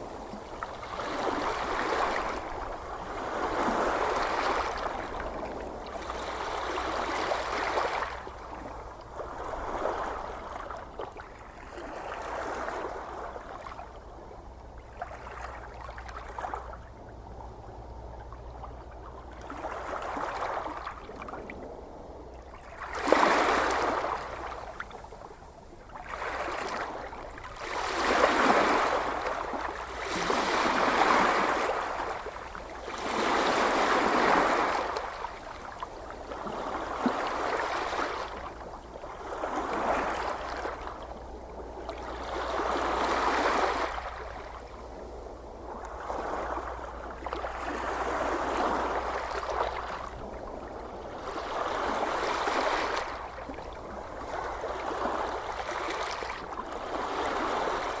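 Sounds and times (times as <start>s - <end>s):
ocean waves washing in: 0.0s - 8.7s, 17.5s - 58.0s.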